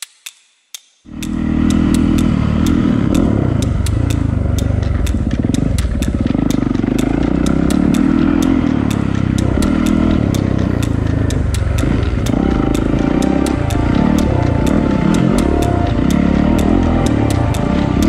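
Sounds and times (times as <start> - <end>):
sharp clicks: 0.0 - 18.0
dirt bike engine running: 1.2 - 18.0.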